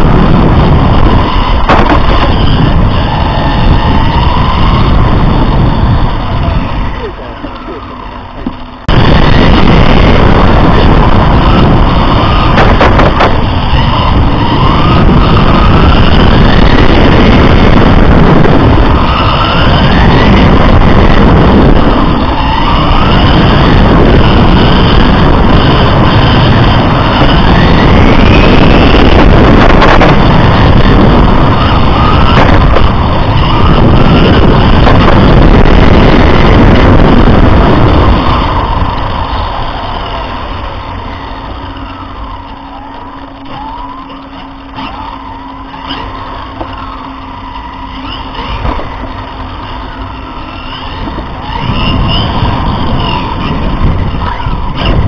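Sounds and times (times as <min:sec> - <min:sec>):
loud wind: 0:00.0 - 0:55.0
rc car motor whining: 0:00.0 - 0:55.0.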